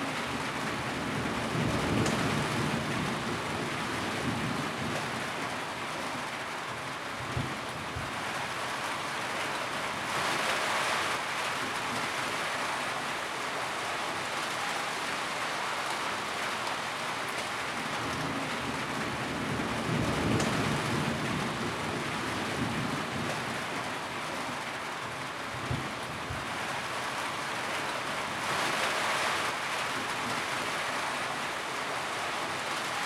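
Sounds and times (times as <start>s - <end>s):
heavy rain on a tin roof: 0.0s - 33.0s.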